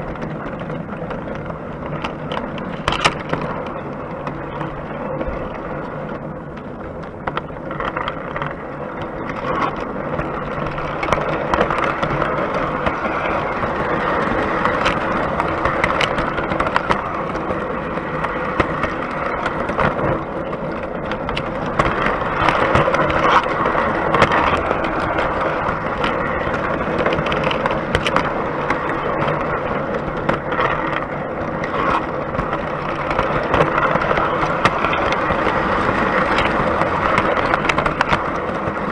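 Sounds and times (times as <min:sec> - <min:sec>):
model train wheels rattling on rails: 0:00.0 - 0:38.9
sharp track clicks: 0:00.0 - 0:38.9.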